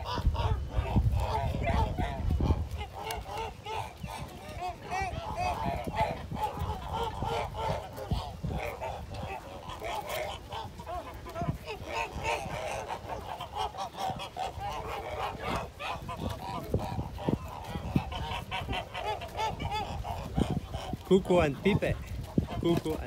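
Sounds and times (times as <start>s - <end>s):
flock of birds calling: 0.0s - 23.0s.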